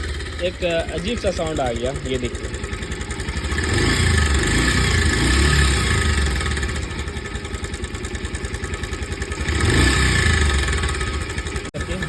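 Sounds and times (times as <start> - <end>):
motorcycle engine revving and idling: 0.0 - 12.0.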